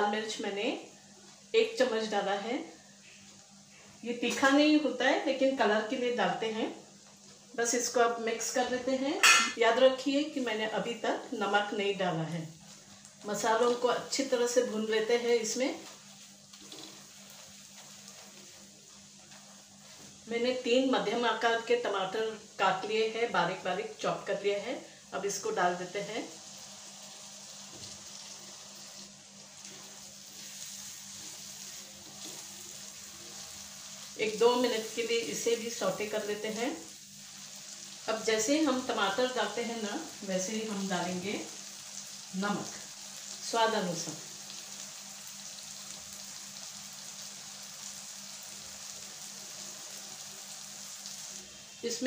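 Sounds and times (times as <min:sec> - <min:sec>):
tomatoes sizzling in hot oil: 0:00.0 - 0:52.0.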